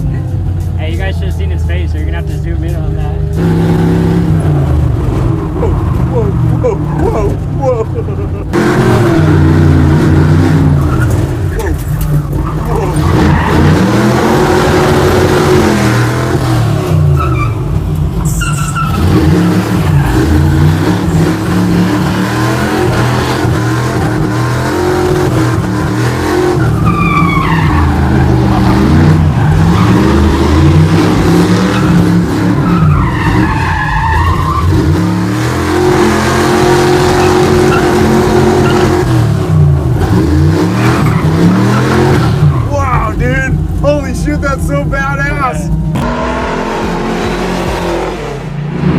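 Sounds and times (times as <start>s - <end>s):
car engine revving: 0.0s - 48.9s
tires squealing: 0.9s - 48.9s.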